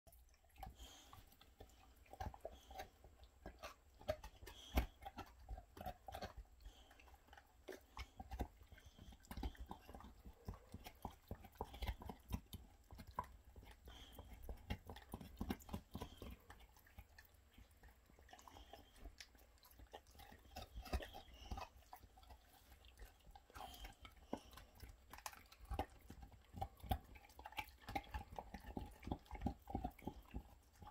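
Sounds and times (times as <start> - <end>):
dogs crunching chew bones: 0.1 - 30.9.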